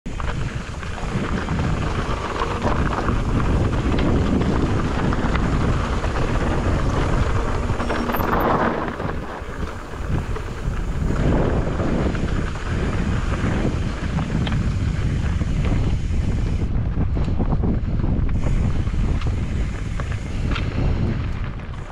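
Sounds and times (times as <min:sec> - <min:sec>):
bike clicks and rattles: 0:00.1 - 0:21.9
wind buffeting microphone: 0:00.1 - 0:21.9.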